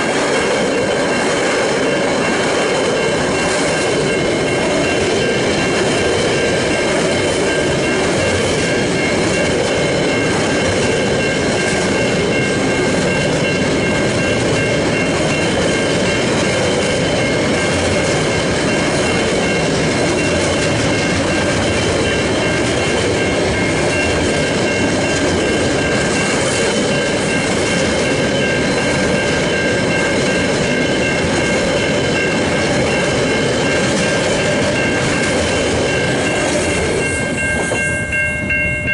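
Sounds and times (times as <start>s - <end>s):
crossing warning bells: 0.0s - 38.9s
train wheels rumbling on rails: 0.0s - 38.9s.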